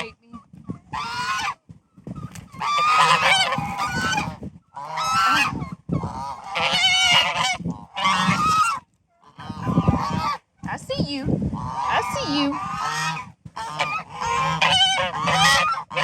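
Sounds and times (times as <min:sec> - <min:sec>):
geese honking: 0:00.9 - 0:10.5, 0:11.6 - 0:16.0.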